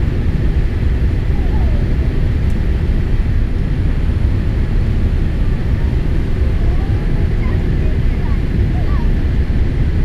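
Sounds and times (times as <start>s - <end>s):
airplane engine rumble: 0.0s - 10.0s.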